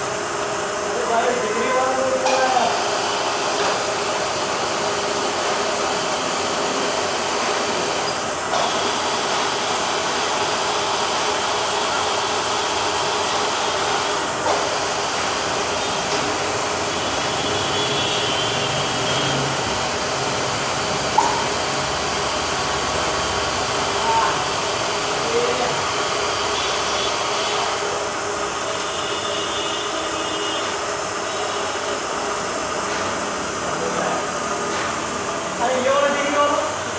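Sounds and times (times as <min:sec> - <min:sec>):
milling machine whirring: 0:00.0 - 0:36.9.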